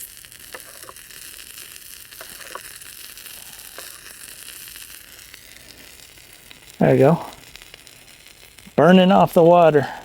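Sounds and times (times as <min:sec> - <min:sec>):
fire starter sizzling on water: 0:00.0 - 0:10.0
small pops and crackles: 0:00.0 - 0:10.0.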